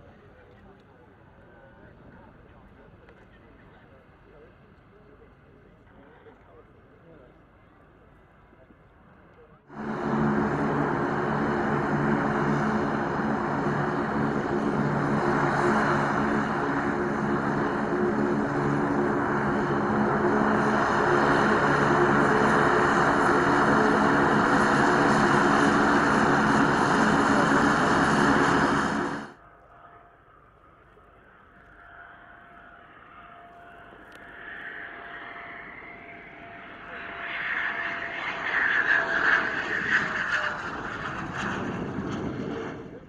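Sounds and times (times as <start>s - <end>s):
turboprop aircraft taxiing: 0.0s - 43.0s.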